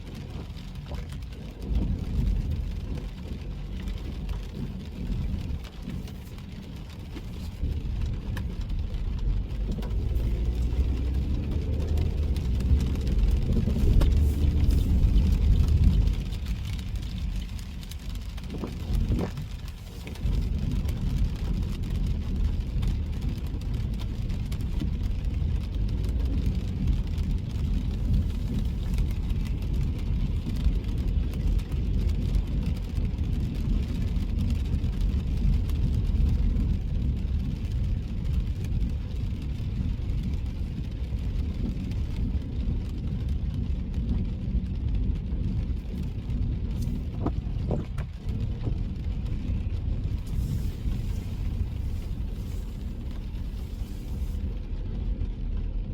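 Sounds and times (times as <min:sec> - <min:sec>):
tyres hissing on wet road: 0:00.0 - 0:42.0, 0:45.9 - 0:55.0
road rumble: 0:00.0 - 0:55.9.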